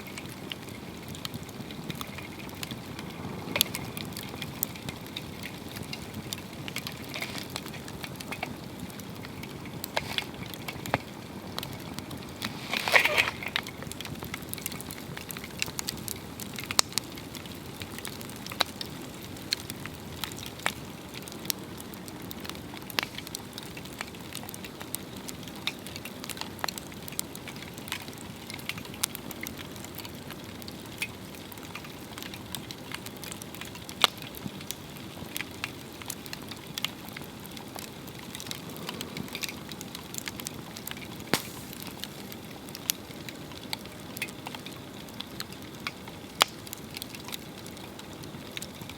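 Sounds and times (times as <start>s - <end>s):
burning wood crackling and popping: 0.0s - 48.9s
fire roaring: 0.0s - 48.9s.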